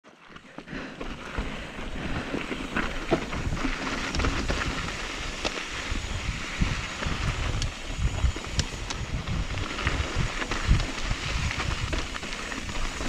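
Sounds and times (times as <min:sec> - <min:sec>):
footsteps crunching on gravel: 0:00.0 - 0:13.0
wind buffeting microphone: 0:01.0 - 0:13.0.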